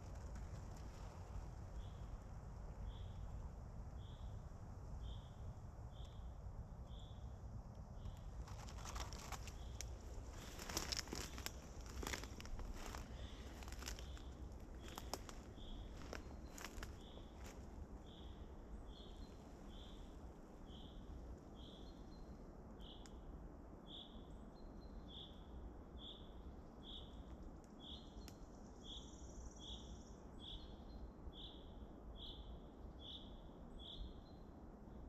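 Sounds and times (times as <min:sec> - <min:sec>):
forest background noise: 0:00.0 - 0:35.0.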